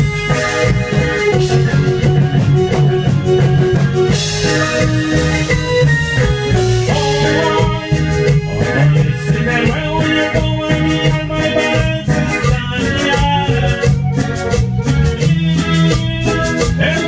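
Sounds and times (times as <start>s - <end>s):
bass: 0.0s - 17.0s
button accordion: 0.0s - 17.0s
drums: 0.0s - 17.0s
electric guitar: 0.0s - 17.0s.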